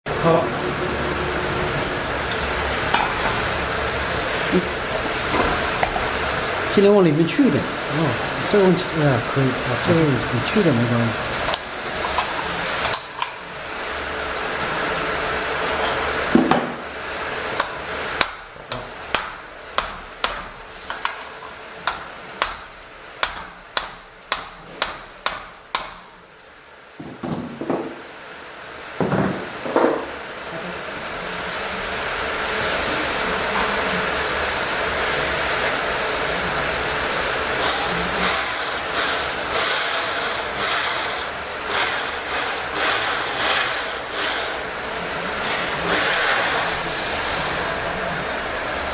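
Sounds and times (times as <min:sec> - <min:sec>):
pipe cutting machine running: 0:00.1 - 0:26.5, 0:30.4 - 0:48.9.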